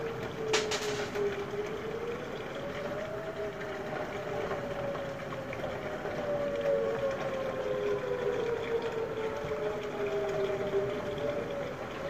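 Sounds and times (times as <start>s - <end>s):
warning sirens wailing: 0.0s - 12.0s.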